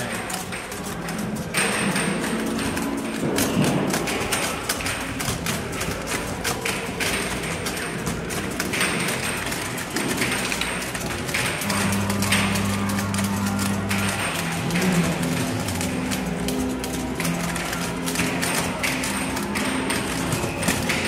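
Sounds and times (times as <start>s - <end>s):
background music: 0.0s - 21.0s
mechanical game clacking: 0.0s - 21.0s.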